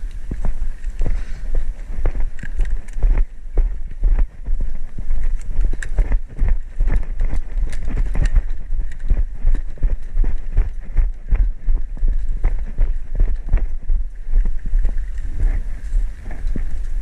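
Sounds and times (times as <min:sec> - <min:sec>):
footsteps: 0:00.0 - 0:17.0
steady low rumble: 0:00.0 - 0:17.0.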